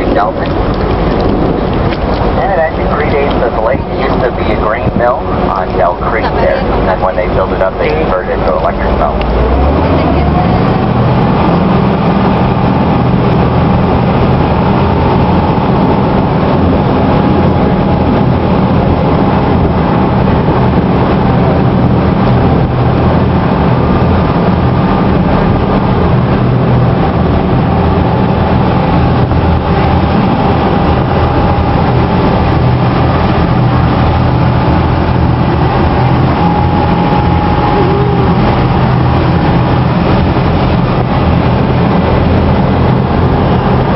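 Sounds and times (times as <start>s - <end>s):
boat engine humming: 0.0s - 43.9s
thin steady whine: 0.0s - 43.9s.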